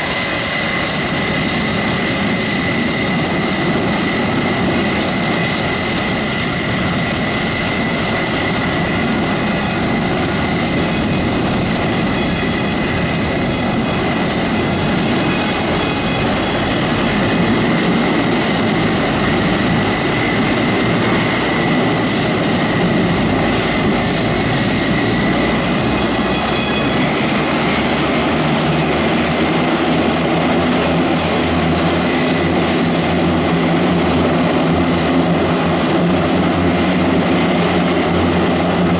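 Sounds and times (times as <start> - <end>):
low propeller hum: 0.0 - 38.9
turboprop engines running: 0.0 - 38.9.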